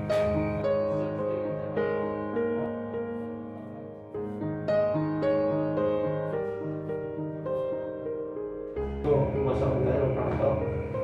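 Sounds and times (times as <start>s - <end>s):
calm piano melody: 0.0s - 11.0s.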